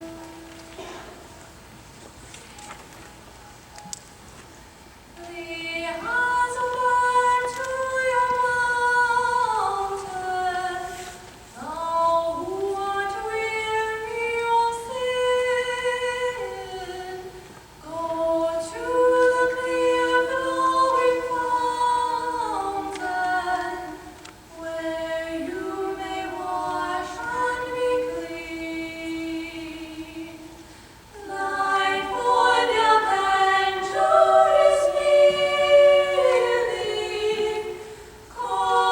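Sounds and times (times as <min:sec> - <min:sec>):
children's choir singing: 0:05.2 - 0:30.6, 0:31.2 - 0:38.9.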